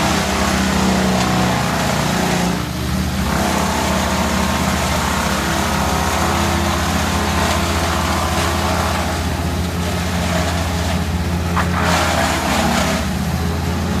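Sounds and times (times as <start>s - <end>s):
large machinery engine running: 0.0s - 14.0s.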